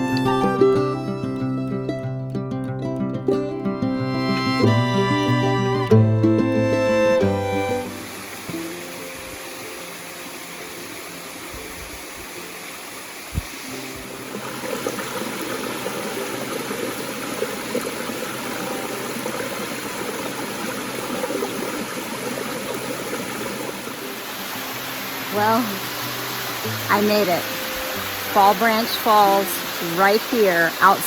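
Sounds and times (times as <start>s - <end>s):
waterfall rushing: 0.0s - 2.1s, 3.9s - 31.0s.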